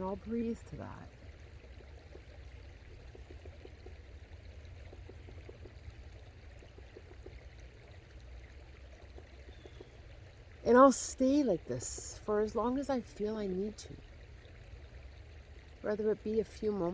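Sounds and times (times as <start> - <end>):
creek trickling and gurgling: 0.0 - 16.9
low steady rumble: 0.0 - 16.9.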